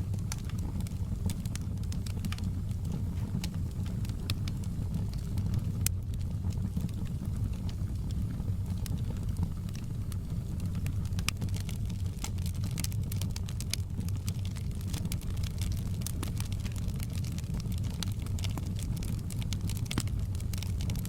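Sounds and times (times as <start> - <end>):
fire crackling and popping: 0.0 - 21.0
steady low rumble: 0.0 - 21.0.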